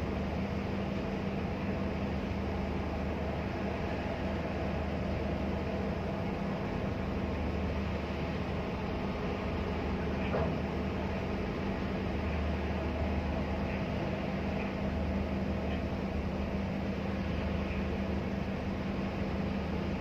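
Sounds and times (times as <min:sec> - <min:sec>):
low engine drone: 0:00.0 - 0:20.0.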